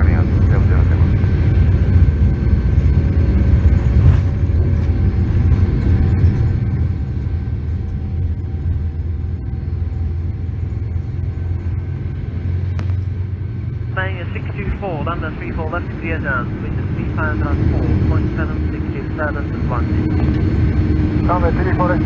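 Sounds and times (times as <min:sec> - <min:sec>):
jet engines rumbling: 0:00.0 - 0:22.0
wheels rumbling on runway: 0:00.0 - 0:22.0.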